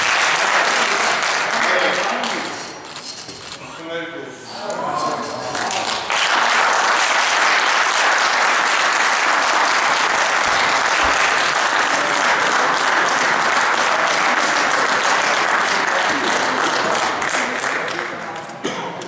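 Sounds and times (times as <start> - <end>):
crowd applauding: 0.0 - 2.6, 5.2 - 18.3.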